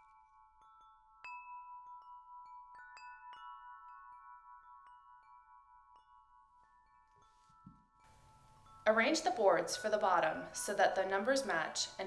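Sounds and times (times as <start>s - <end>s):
wind chime ringing: 0.0s - 12.0s.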